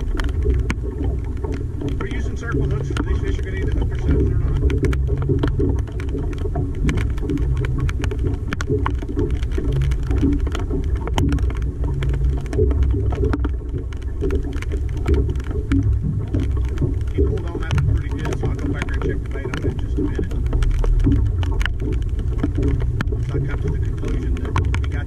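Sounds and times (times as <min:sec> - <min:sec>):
heavy rain drops hitting: 0:00.0 - 0:25.0
wind rumble on microphone: 0:00.0 - 0:25.0.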